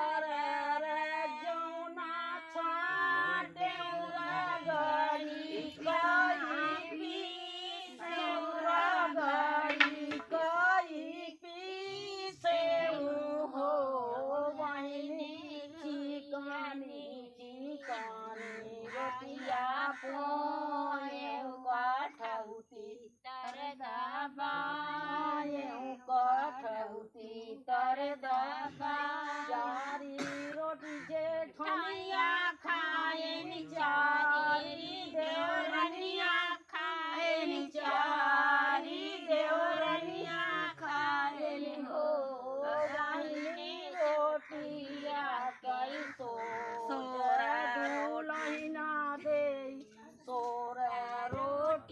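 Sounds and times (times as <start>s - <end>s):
women singing folk song: 0.0s - 51.9s.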